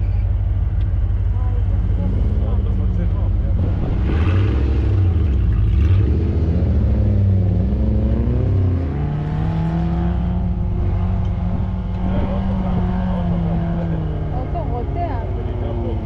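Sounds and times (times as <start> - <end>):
off-road vehicle engine under load: 0.0 - 16.0.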